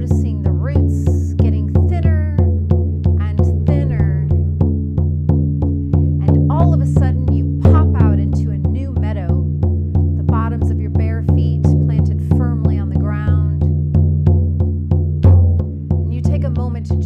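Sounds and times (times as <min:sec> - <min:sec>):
frame drum booming beat: 0:00.0 - 0:17.0.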